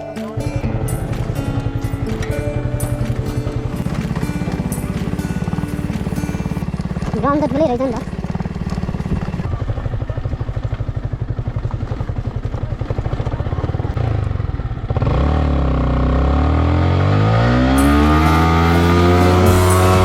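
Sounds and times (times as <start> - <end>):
motorcycle engine running: 0.3 - 20.0.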